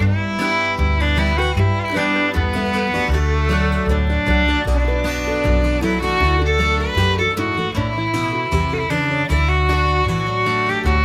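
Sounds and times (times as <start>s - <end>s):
fiddle and guitar music: 0.0s - 11.0s.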